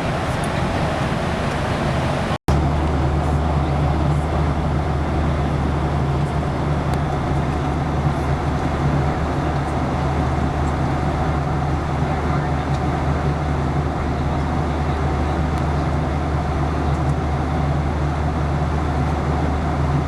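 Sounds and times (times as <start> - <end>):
airplane cabin drone: 0.0 - 20.0.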